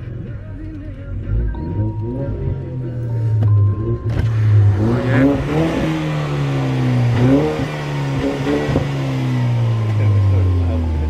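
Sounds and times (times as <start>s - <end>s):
car engine revving: 0.0s - 11.0s
low engine drone: 1.2s - 11.0s.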